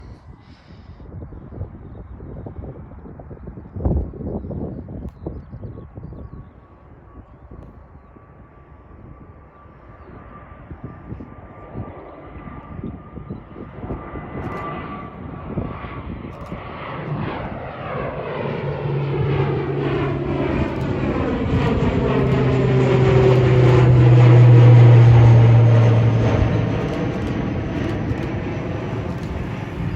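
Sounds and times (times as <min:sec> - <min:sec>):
airliner engines passing: 0:00.0 - 0:29.9.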